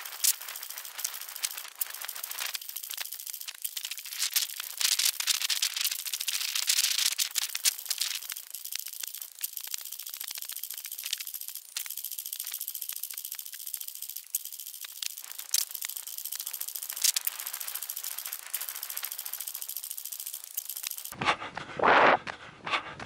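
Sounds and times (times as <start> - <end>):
steady high hiss: 0.0 - 21.1.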